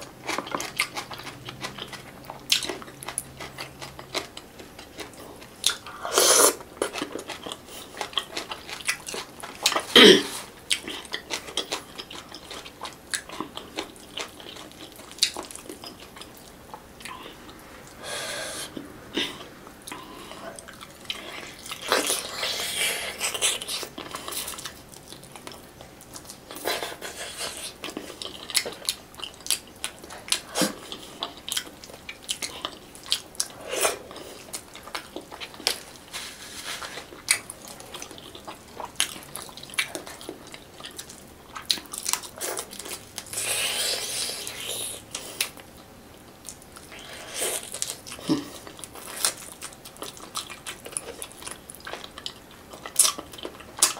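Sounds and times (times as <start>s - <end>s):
wet chewing and smacking: 0.0s - 6.0s, 6.6s - 18.0s, 18.7s - 36.1s, 36.8s - 43.4s, 44.0s - 53.9s.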